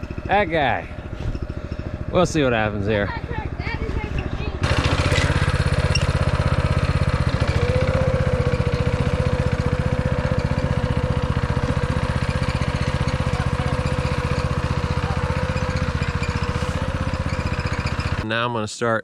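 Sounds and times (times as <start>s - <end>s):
steady whine: 0.0s - 17.3s
small gasoline engine running: 0.0s - 18.2s.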